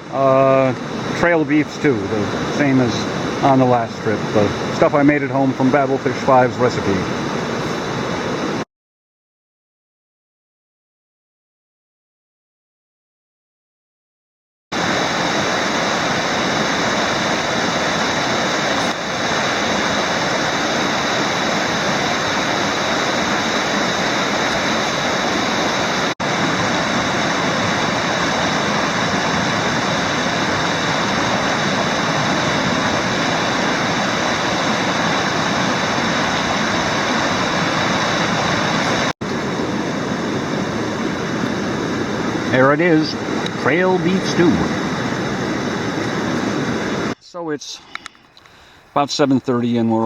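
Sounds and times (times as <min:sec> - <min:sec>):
river water rushing: 0:00.0 - 0:08.6, 0:14.8 - 0:47.2.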